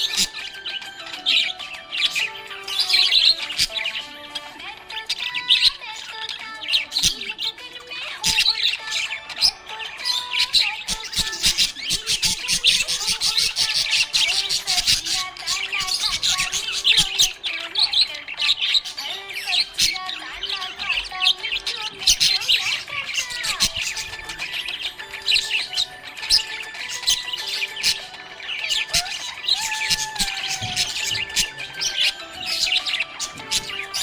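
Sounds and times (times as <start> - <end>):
parrots chirping and squawking: 0.0 - 34.0.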